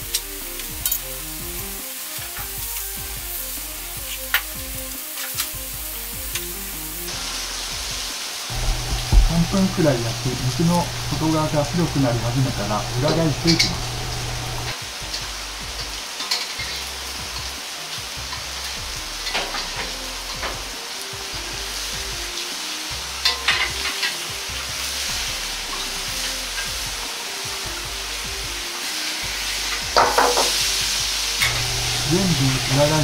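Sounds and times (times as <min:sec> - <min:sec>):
patties sizzling in oil: 0:00.0 - 0:33.0.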